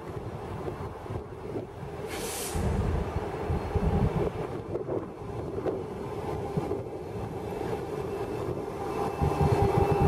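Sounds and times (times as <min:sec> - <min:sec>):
locomotive engine drone: 0:00.0 - 0:10.0
train rumble: 0:00.0 - 0:10.0.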